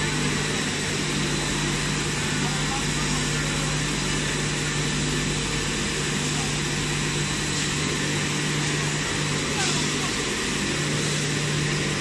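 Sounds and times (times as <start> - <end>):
machine drone: 0.0 - 12.0.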